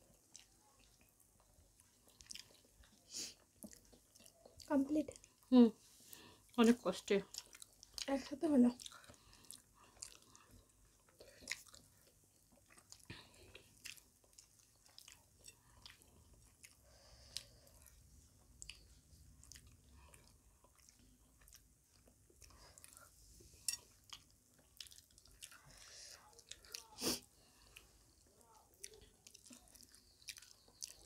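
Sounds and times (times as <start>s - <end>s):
people chewing food: 0.0s - 31.0s.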